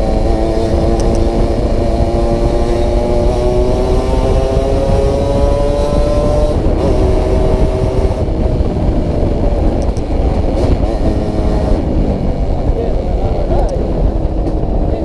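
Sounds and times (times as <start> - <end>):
heavy low noise: 0.0 - 15.0
two-stroke motorcycle engine: 0.0 - 15.0.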